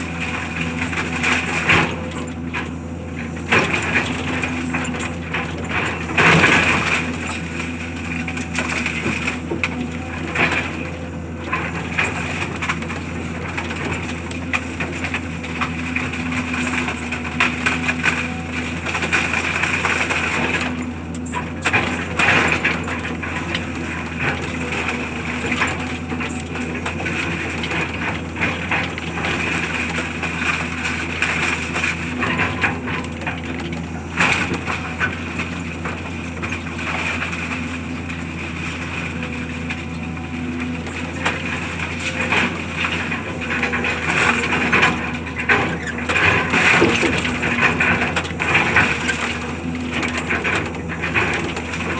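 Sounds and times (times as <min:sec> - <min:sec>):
debris cracking and crunching: 0:00.0 - 0:51.9
heavy machine engine running: 0:00.0 - 0:51.9.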